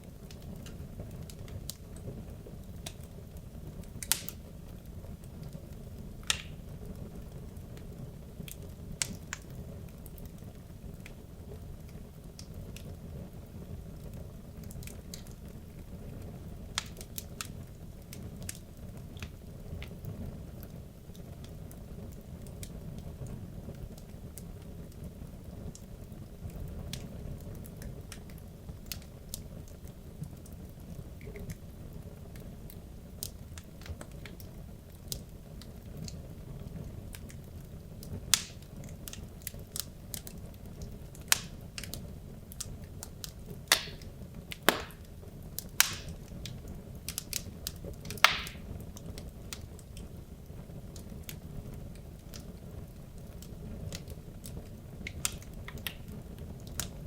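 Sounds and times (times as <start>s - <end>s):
fire crackles and pops: 0.0s - 57.0s
fire rumbling: 0.0s - 57.0s.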